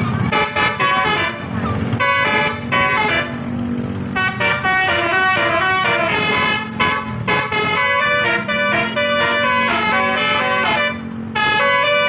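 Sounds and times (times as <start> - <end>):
musical bus horn tune: 0.1 - 12.0.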